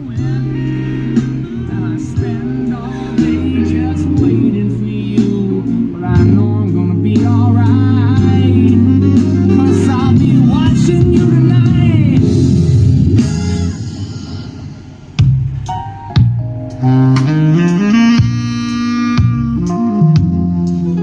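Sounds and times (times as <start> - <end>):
song with vocals guitar and bass: 0.0 - 21.0.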